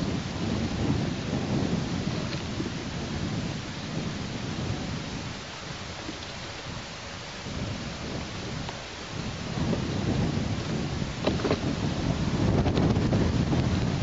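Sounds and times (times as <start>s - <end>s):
steady hiss: 0.0s - 14.0s
wind buffeting microphone: 0.0s - 14.0s.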